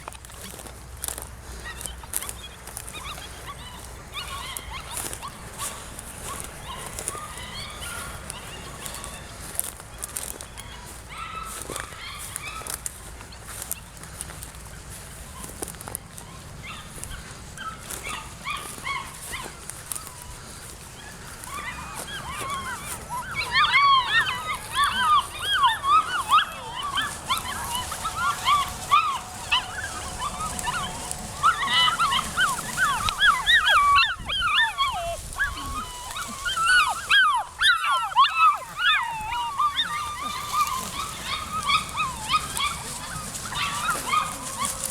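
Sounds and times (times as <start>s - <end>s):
puppies whimpering and yipping: 0.0s - 44.9s.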